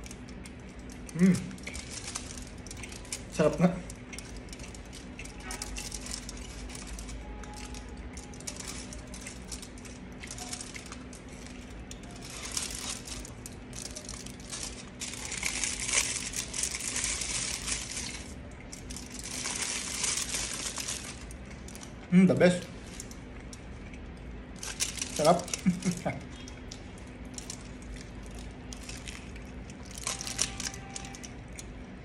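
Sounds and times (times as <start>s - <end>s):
aluminium foil crinkling: 0.0s - 31.9s
faint steady hum: 0.0s - 32.0s.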